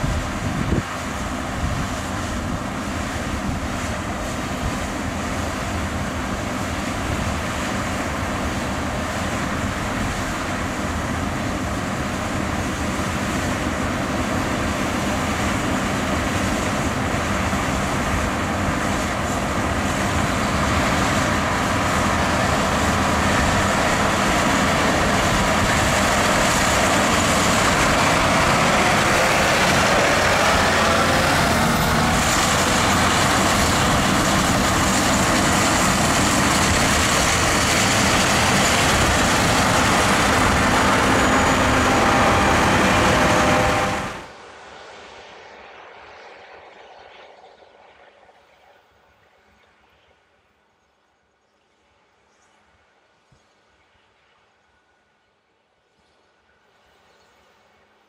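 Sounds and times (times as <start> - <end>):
harvester and tractor machinery drone: 0.0 - 48.6.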